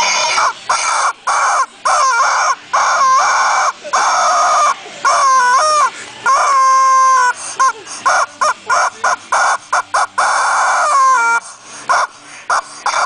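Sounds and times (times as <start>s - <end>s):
rubber chicken toy squawking: 0.0s - 13.0s.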